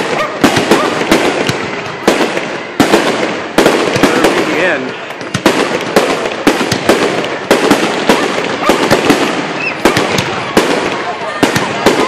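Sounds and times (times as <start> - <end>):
firework bangs: 0.0 - 12.0
firework crackle: 0.0 - 12.0.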